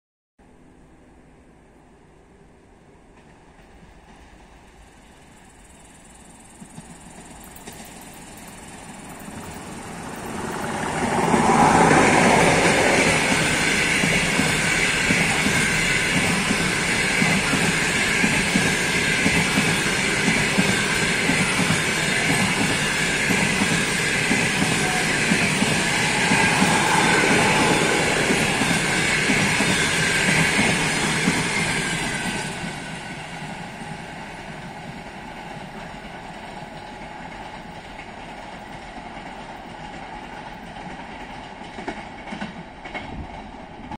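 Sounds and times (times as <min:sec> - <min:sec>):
electric train passing at speed: 0:00.4 - 0:43.9.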